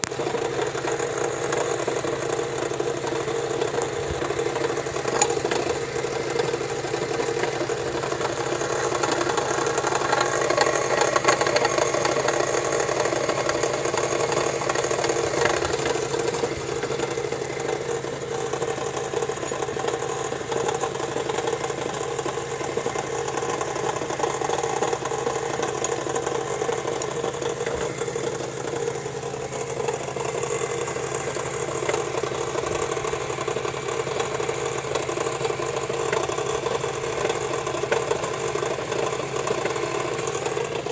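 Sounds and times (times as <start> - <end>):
car engine idling: 0.0 - 40.9
engine knocking: 0.0 - 40.9.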